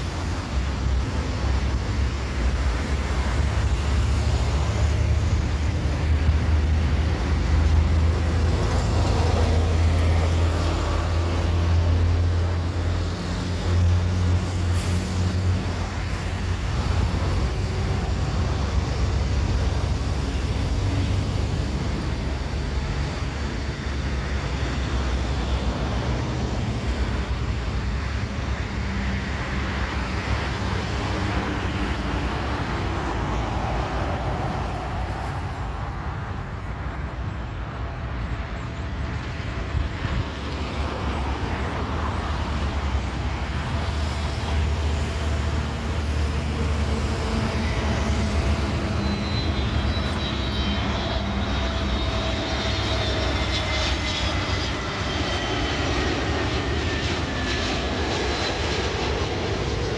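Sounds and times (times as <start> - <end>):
vehicle engines and tyres: 0.0 - 59.9.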